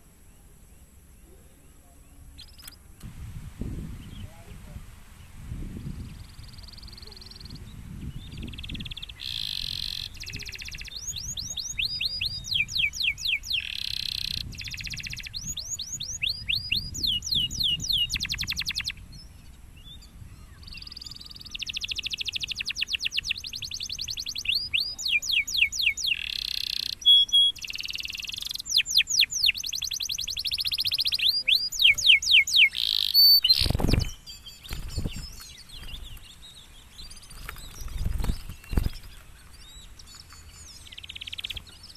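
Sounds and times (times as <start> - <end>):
canary singing: 6.0 - 19.0, 20.0 - 41.9.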